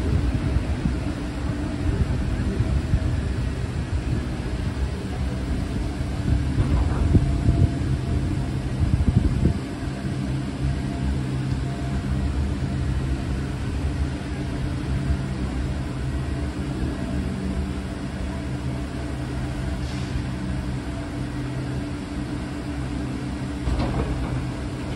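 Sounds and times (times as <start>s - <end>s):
lock gate machinery humming: 0.0s - 24.9s.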